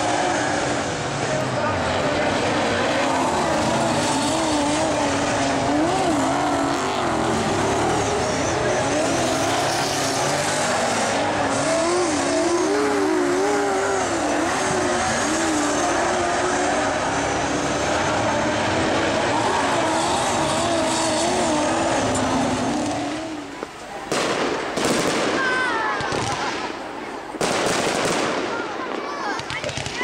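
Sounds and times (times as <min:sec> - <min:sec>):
racing car engines: 0:00.0 - 0:30.0.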